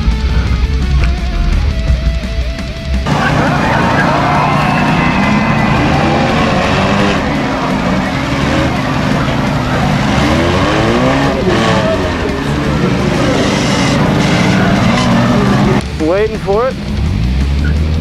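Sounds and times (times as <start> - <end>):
engine and tyre din: 0.0 - 18.0
car engines revving hard: 2.9 - 18.0.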